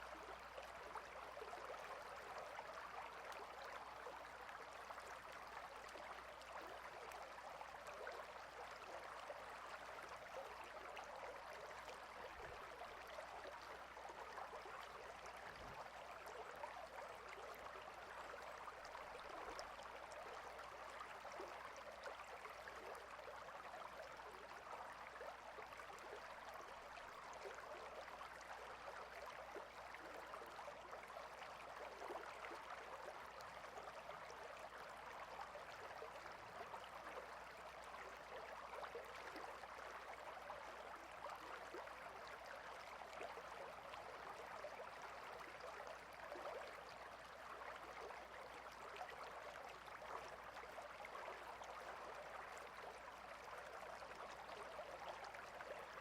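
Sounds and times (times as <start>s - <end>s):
faint stream babbling over rocks: 0.0s - 56.0s.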